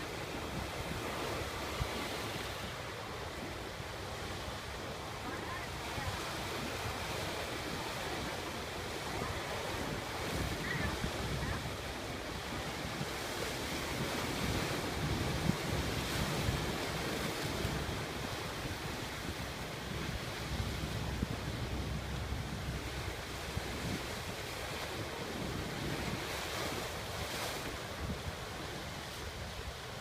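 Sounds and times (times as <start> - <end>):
sea waves washing in: 0.0 - 30.0
wind buffeting microphone: 0.0 - 30.0.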